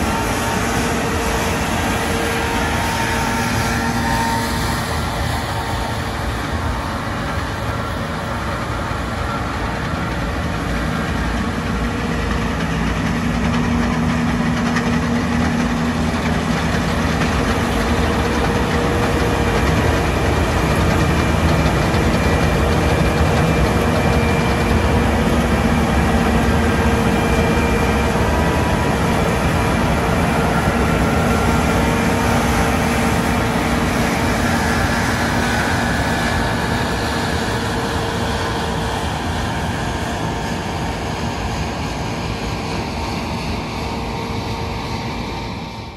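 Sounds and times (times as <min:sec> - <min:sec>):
combine harvester engine droning: 0:00.0 - 0:45.9.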